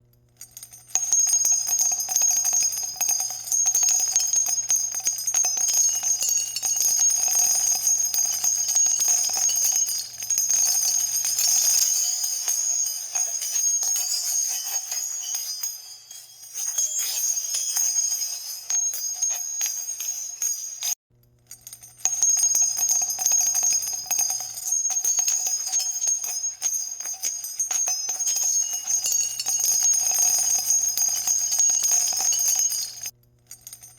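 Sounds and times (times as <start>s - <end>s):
high bell-like ringing: 1.0s - 21.0s, 22.1s - 33.1s.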